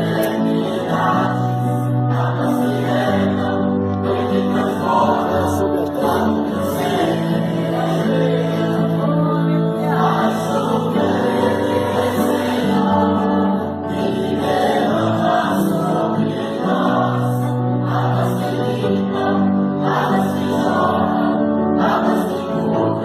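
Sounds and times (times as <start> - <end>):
church choir singing: 0.0 - 23.0.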